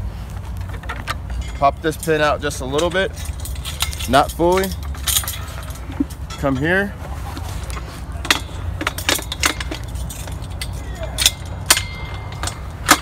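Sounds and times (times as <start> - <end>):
metal clicks and clanks: 0.4 - 6.8, 7.6 - 13.0.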